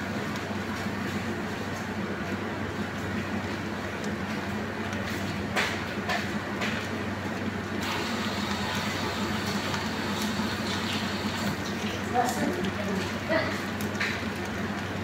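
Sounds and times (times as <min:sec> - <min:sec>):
kitchen hum with hiss: 0:00.0 - 0:15.0.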